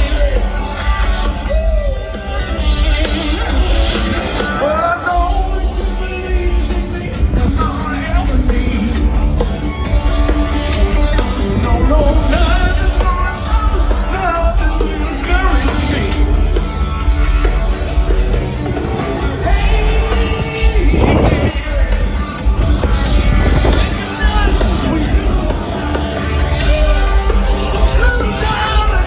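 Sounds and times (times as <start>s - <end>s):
bass guitar: 0.0s - 29.0s
drums: 0.0s - 29.0s
electric guitar: 0.0s - 29.0s.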